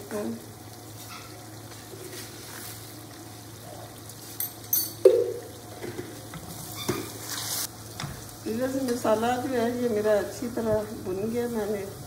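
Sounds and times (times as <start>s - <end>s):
spice paste sizzling in a wok: 0.0s - 4.8s, 6.2s - 12.0s.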